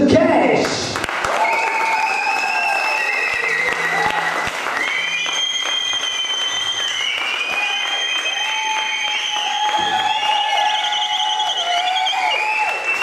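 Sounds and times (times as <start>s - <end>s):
audience applauding: 0.9s - 13.0s.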